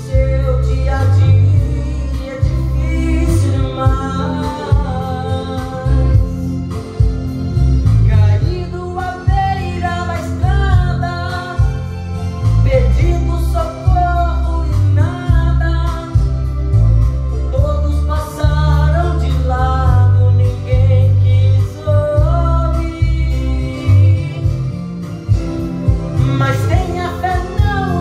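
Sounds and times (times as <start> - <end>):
man singing a hymn: 0.0 - 6.5, 8.1 - 11.8, 12.6 - 16.3, 17.5 - 24.8, 26.2 - 28.0
instrumental accompaniment with bass: 0.0 - 28.0.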